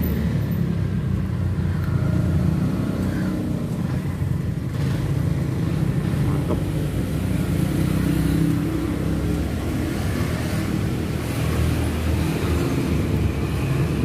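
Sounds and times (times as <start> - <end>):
motor traffic humming: 0.0 - 14.0.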